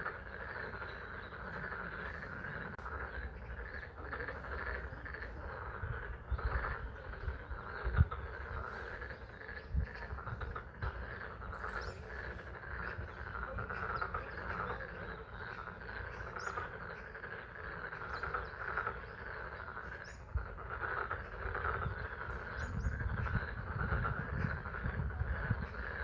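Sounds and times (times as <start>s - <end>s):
steady low rumble: 0.0s - 16.4s, 17.0s - 26.0s
chorus of frogs calling: 0.0s - 26.0s.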